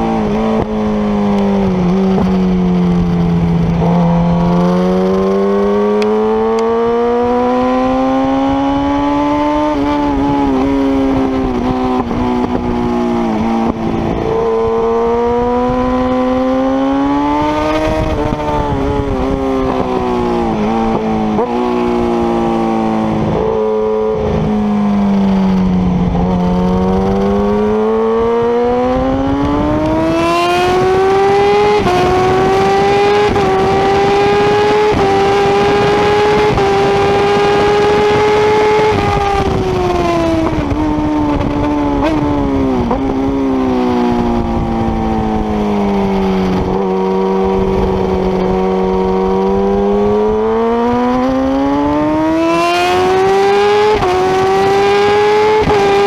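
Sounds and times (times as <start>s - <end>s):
motorcycle engine revving: 0.0s - 56.0s
wind and road rush: 0.0s - 56.0s.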